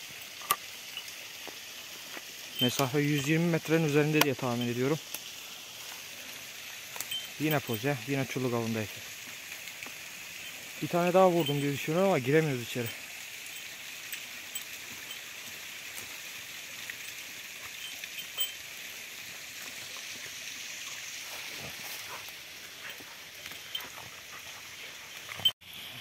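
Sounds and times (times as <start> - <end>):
dogs rustling in dry leaves: 0.0 - 26.0
steady outdoor hiss: 0.0 - 26.0.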